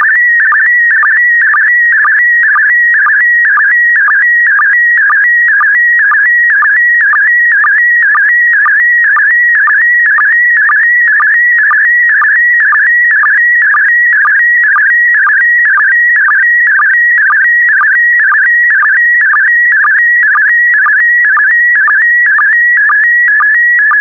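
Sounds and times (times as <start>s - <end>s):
warbling picture signal tone: 0.0s - 24.0s.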